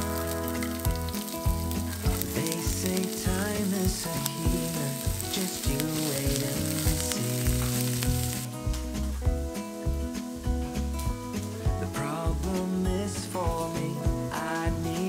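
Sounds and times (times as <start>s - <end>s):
onion sizzling in hot oil: 0.0s - 15.0s
soft background music: 0.0s - 15.0s.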